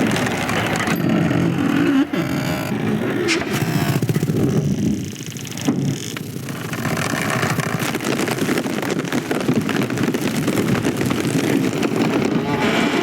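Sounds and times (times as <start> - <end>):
rushing and rumbling noise: 0.0 - 13.0.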